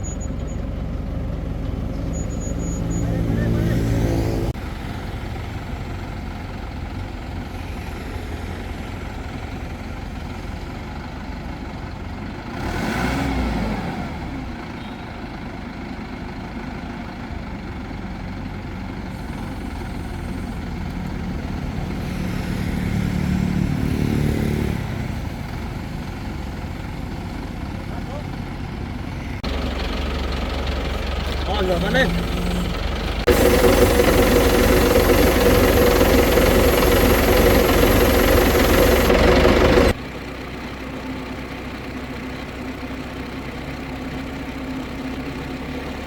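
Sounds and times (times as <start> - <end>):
heavy crane engine running: 0.0 - 12.6, 14.5 - 46.0.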